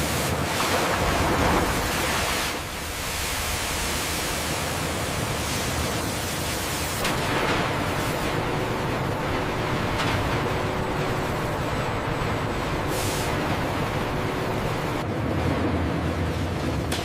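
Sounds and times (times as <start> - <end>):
sawmill machinery rush: 0.0 - 16.3.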